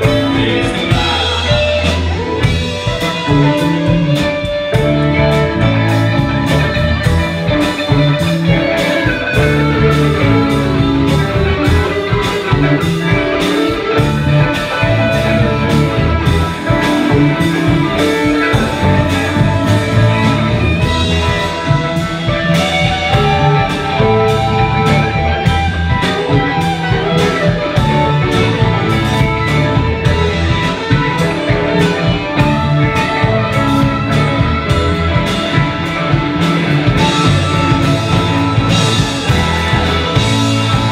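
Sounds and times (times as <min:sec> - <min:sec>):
live band playing: 0:00.0 - 0:40.9
steady drum beat: 0:00.0 - 0:40.9.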